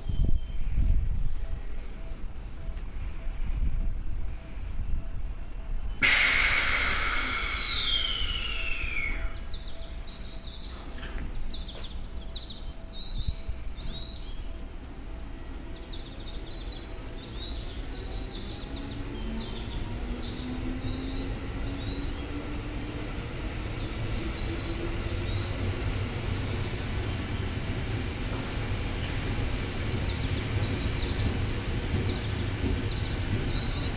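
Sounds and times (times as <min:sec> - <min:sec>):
electric train whine: 0:00.0 - 0:33.9.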